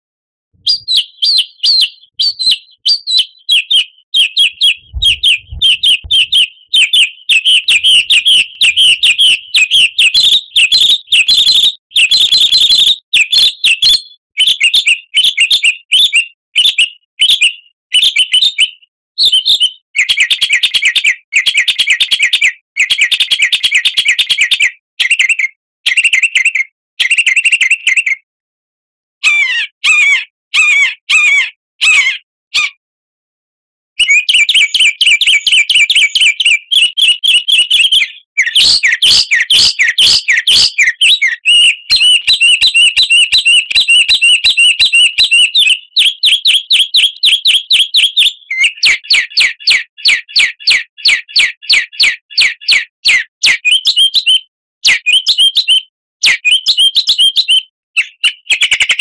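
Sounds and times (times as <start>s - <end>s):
songbird chirping and trilling: 0.6s - 28.2s, 29.2s - 32.8s, 34.0s - 59.0s.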